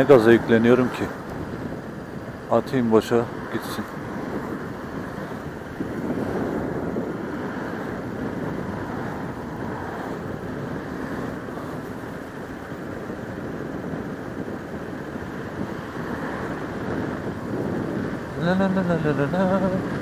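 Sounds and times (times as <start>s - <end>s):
road noise: 0.0s - 20.0s
wind rushing: 0.0s - 20.0s.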